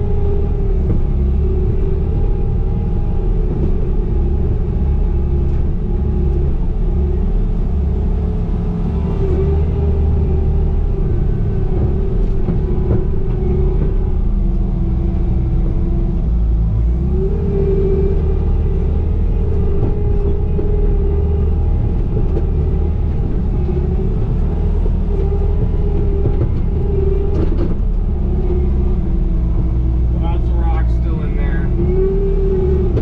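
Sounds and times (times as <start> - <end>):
diesel engine rumble: 0.0 - 33.0.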